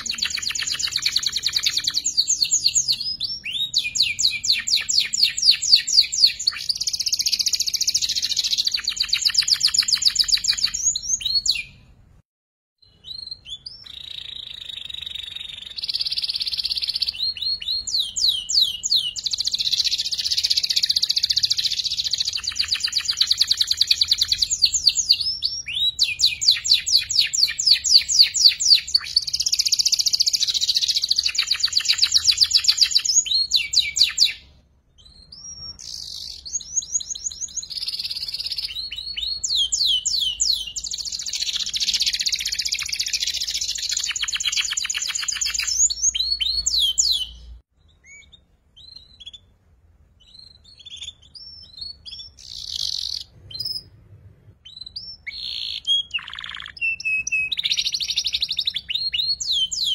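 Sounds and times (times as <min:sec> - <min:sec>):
canary trilling: 0:00.0 - 0:11.8, 0:12.8 - 0:49.6, 0:50.2 - 0:54.0, 0:54.6 - 0:59.9
short bird chirps: 0:00.0 - 0:11.9, 0:12.8 - 0:59.9.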